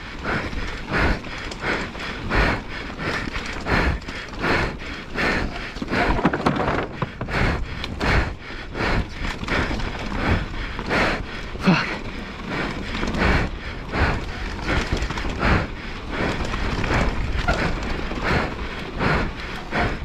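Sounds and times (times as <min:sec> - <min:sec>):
bike rattling on dirt trail: 0:00.0 - 0:20.0
person panting hard: 0:00.0 - 0:20.0.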